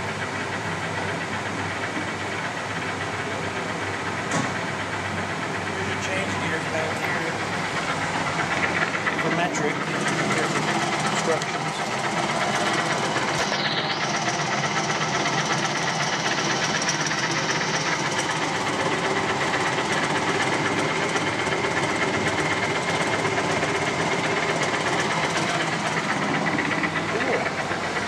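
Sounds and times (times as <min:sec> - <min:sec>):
lathe whirring: 0:00.0 - 0:28.0.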